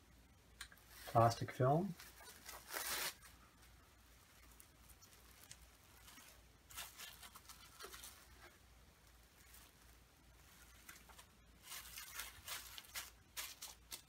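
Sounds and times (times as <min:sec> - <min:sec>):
plastic cling film crinkling: 0:00.7 - 0:14.0.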